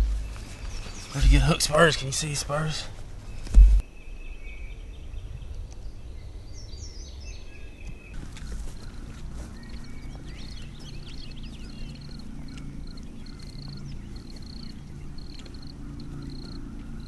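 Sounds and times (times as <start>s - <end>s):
bird chirps: 0.0s - 2.2s, 3.3s - 17.0s
low background rumble: 0.0s - 3.8s, 4.9s - 17.0s.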